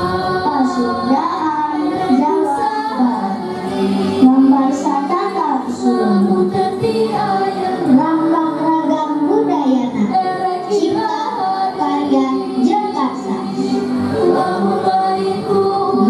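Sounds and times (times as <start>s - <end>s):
children singing: 0.0s - 16.0s
music accompaniment: 0.0s - 16.0s.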